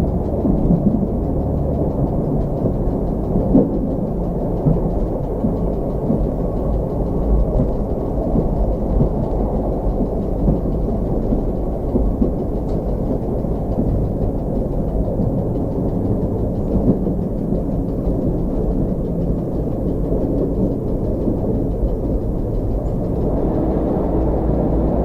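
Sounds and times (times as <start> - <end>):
diesel railcar engine rumble: 0.0 - 25.0
wheels on rails: 0.0 - 25.0.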